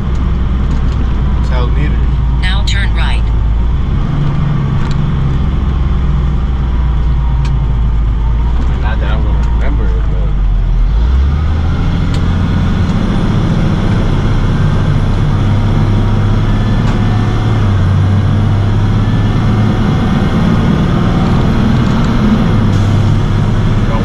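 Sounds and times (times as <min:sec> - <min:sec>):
road noise: 0:00.0 - 0:24.0
truck engine: 0:00.0 - 0:24.0.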